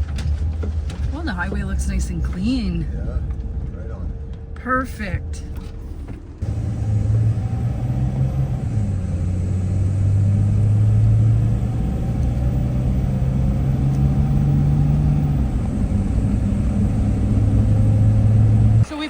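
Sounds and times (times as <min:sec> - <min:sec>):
road and tyre noise: 0:00.0 - 0:19.0
van engine drone: 0:00.0 - 0:19.0.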